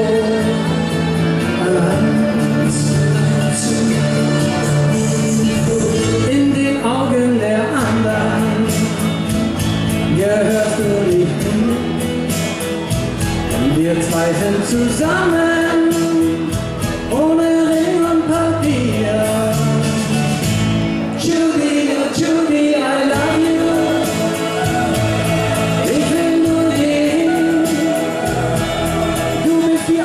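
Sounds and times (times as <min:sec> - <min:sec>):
man singing into microphone: 0:00.0 - 0:12.7, 0:13.5 - 0:20.5, 0:21.1 - 0:30.0
backing music with steady beat: 0:00.0 - 0:30.0.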